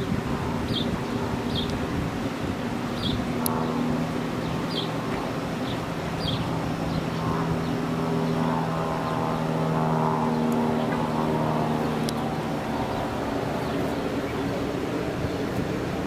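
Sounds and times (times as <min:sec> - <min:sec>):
higher steady tones: 0:00.0 - 0:15.3
jet engines droning: 0:00.0 - 0:16.0.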